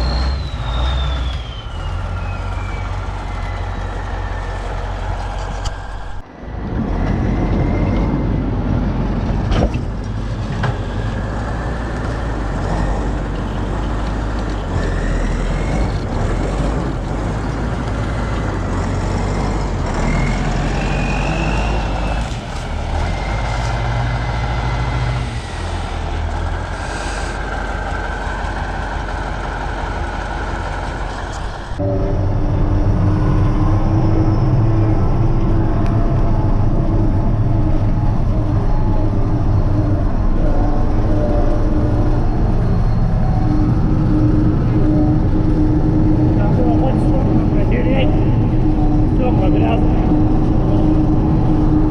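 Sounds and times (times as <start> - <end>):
tractor diesel engine drone: 0.0 - 51.9.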